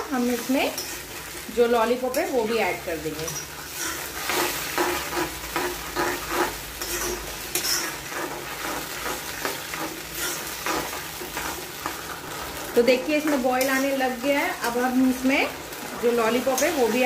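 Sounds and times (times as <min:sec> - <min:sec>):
metal spoon scraping a wok: 0:00.0 - 0:17.0
sauce sizzling: 0:00.0 - 0:17.0.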